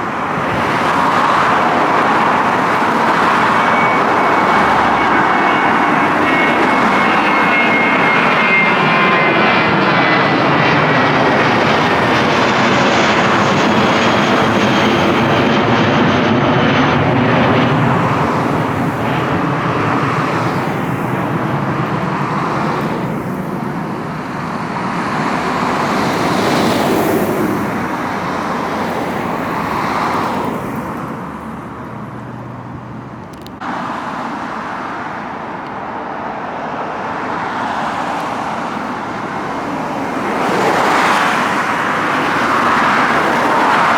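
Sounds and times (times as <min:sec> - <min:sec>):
jet airliner engine whine: 0:00.0 - 0:43.9
road traffic: 0:00.0 - 0:43.9.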